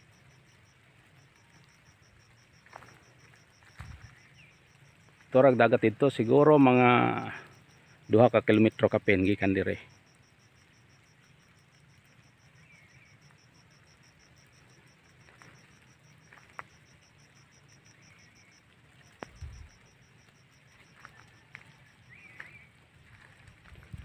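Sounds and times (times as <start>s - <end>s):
insect pulsed chirping: 0.0s - 24.0s.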